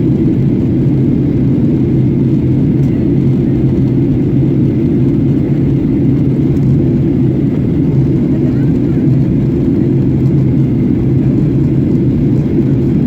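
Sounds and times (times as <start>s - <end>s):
airplane engines humming in cabin: 0.0s - 13.0s.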